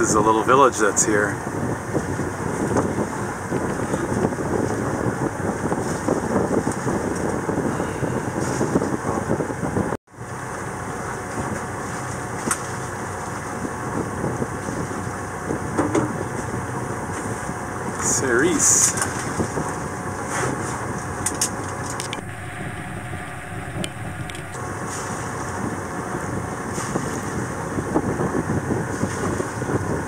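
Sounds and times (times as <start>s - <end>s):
boat engine running: 0.0s - 30.0s
wind noise on microphone: 1.3s - 10.0s, 13.4s - 30.0s.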